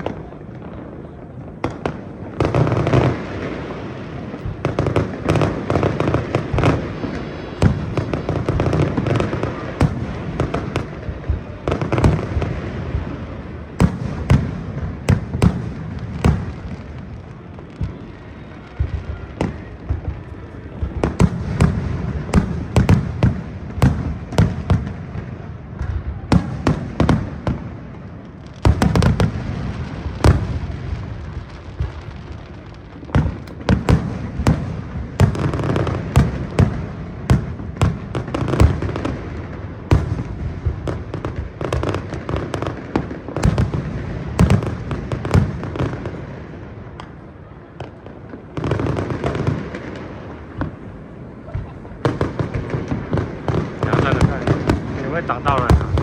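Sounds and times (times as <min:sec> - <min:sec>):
fireworks bursts: 0:00.0 - 0:56.0.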